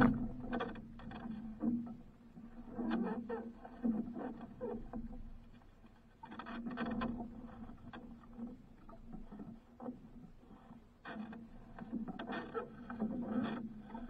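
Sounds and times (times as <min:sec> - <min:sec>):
water lapping against a hull: 0:00.0 - 0:14.0.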